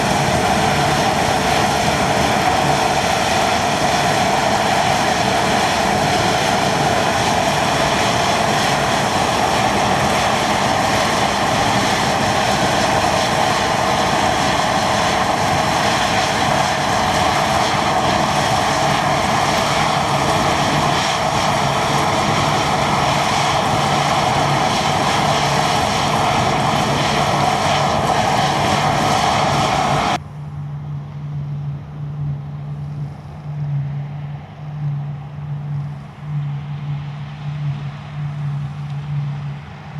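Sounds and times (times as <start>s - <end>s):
combine harvester drone: 0.0s - 39.9s
constant mechanical whine: 0.0s - 39.9s
low engine hum: 0.0s - 39.9s.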